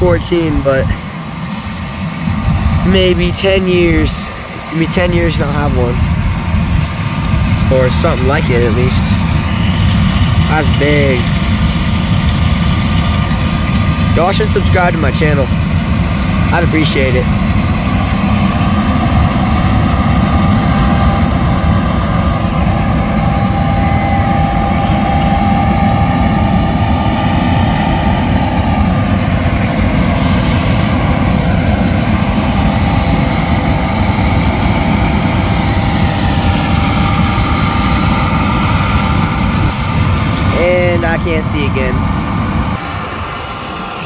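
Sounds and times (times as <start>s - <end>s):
combine harvester droning: 0.0s - 44.0s
wind rumble on microphone: 0.0s - 44.0s.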